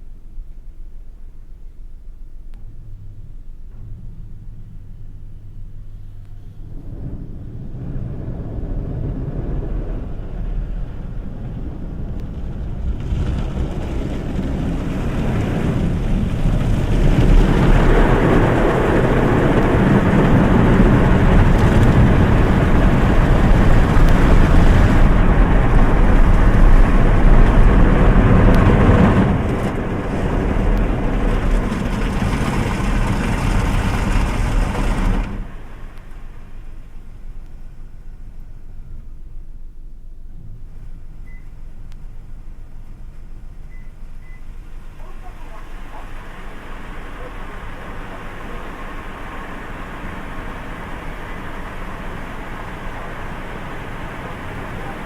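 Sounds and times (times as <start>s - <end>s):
car wash machine rushing: 2.6s - 38.6s, 40.4s - 55.0s.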